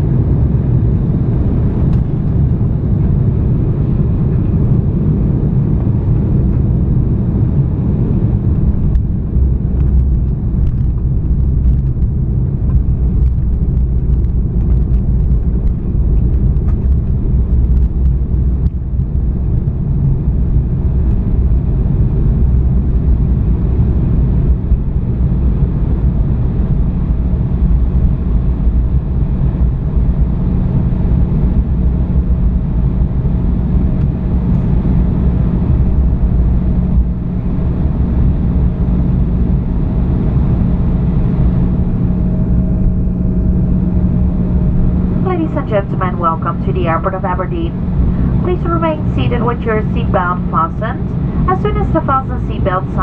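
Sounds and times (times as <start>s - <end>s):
jet cabin engine rumble: 0.0s - 53.0s.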